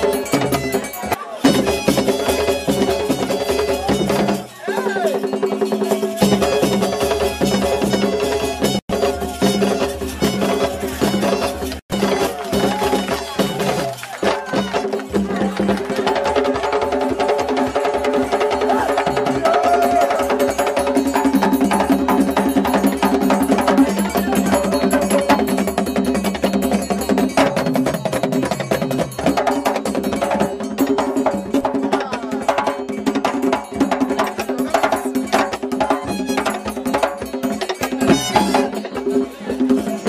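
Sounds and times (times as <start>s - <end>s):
fast hand drum rhythm: 0.0s - 40.0s.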